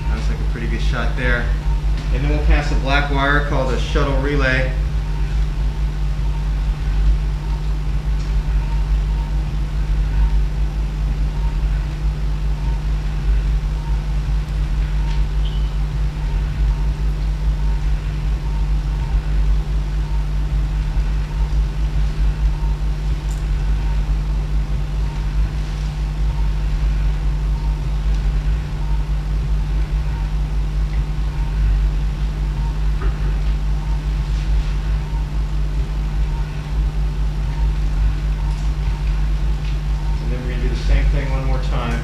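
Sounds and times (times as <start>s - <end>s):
equipment rumble and hum: 0.0s - 42.0s.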